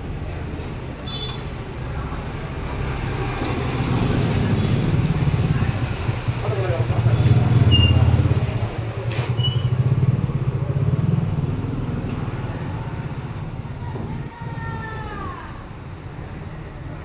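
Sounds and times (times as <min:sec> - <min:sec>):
vehicle engine droning: 0:01.6 - 0:17.0.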